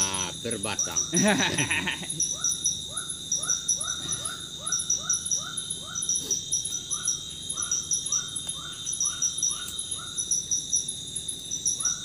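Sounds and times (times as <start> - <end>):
insect buzz and trills: 0.0 - 12.0.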